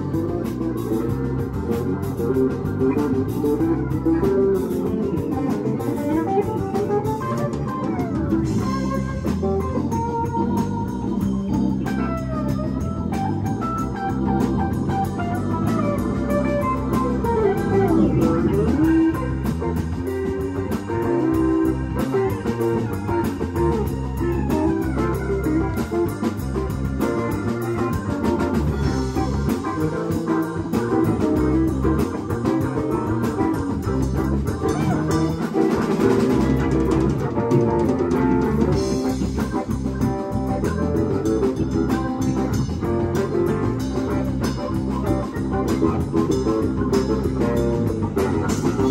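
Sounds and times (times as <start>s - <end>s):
bass guitar: 0.0s - 48.9s
drum kit: 0.0s - 48.9s
electric guitar: 0.0s - 48.9s
keyboards: 0.0s - 48.9s.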